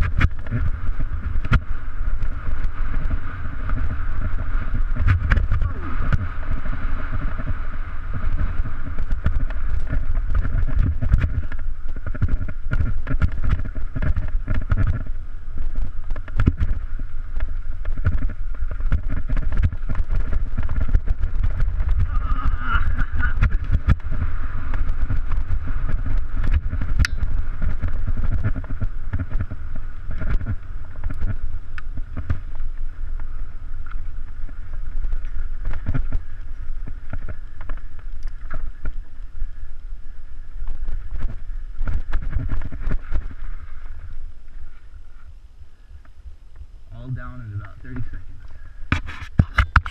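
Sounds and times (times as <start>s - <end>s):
bike rattling over bumps: 0.0s - 45.2s
wind buffeting microphone: 0.0s - 49.9s.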